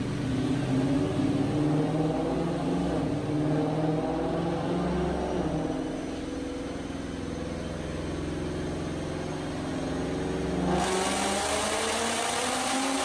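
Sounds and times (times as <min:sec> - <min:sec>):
car engine on dyno: 0:00.0 - 0:13.0.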